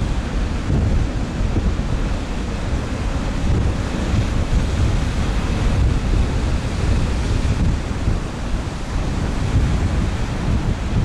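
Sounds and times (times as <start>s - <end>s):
breaking surf: 0.0s - 11.0s
wind buffeting microphone: 0.0s - 11.0s.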